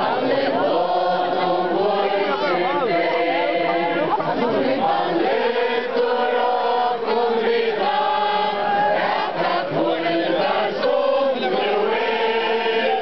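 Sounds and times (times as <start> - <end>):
crowd singing slow song: 0.0 - 13.0.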